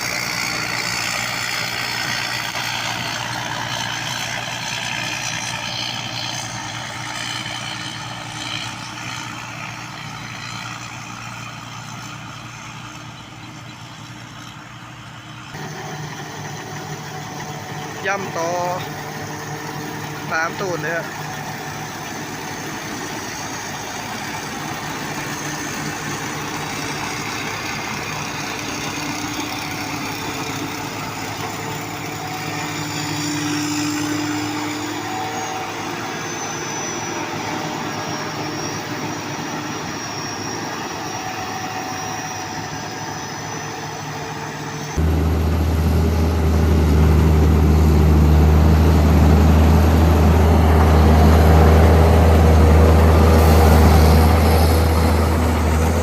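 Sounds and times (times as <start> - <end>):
tractor engine running: 0.0 - 41.2, 42.0 - 56.0.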